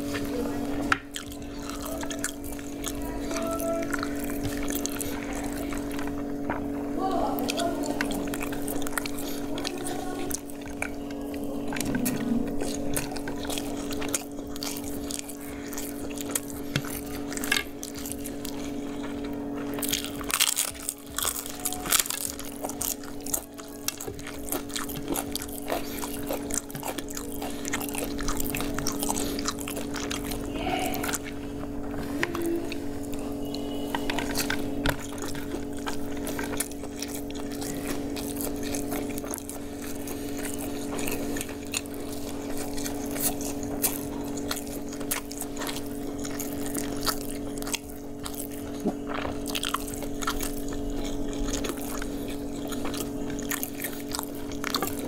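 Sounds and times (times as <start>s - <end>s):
person chewing food: 0.0s - 55.0s
steady low hum: 0.0s - 55.0s
wet mouth noises: 0.0s - 55.0s.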